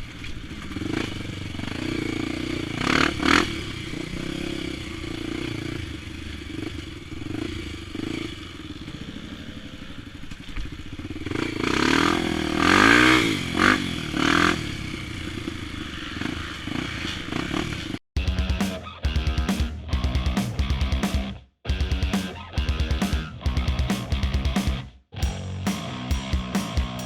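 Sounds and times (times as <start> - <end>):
dirt bike engine revving: 0.6 - 10.0, 11.0 - 27.0.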